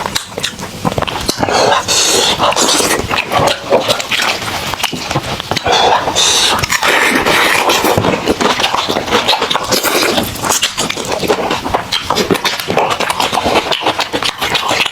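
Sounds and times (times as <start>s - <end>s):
chewing and lip-smacking: 0.0s - 14.9s.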